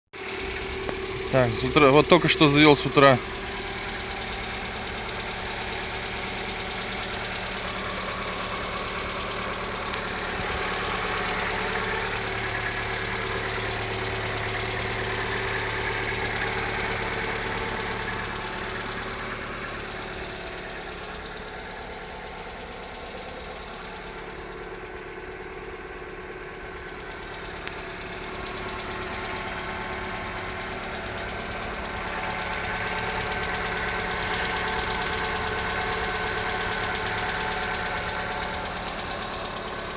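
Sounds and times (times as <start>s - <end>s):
car engine idling with knocking: 0.1s - 39.9s.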